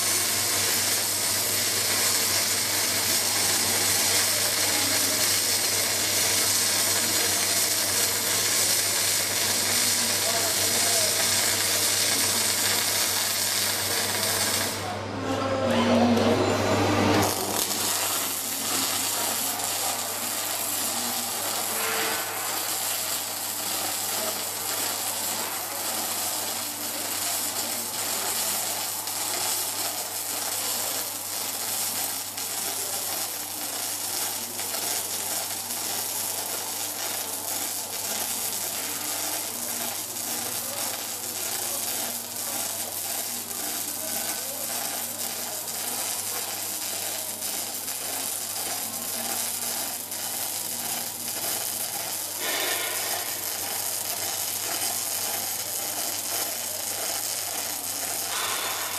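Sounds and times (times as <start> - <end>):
welding arc crackling: 0.0 - 15.0, 16.1 - 58.9.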